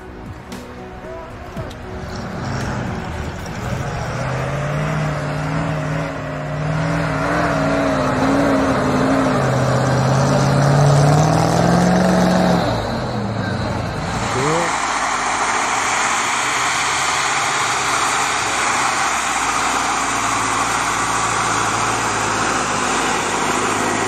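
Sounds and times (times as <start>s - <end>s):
truck engine pulling under load: 0.0s - 24.0s.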